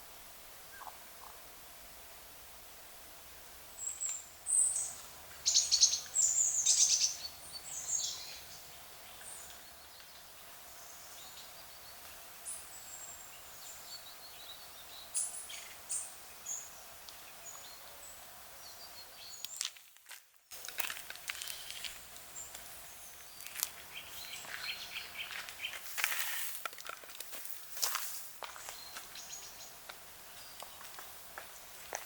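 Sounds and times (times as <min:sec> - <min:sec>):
wild birds chirping: 0:00.6 - 0:01.6, 0:03.3 - 0:19.6, 0:21.4 - 0:26.3, 0:28.6 - 0:32.0.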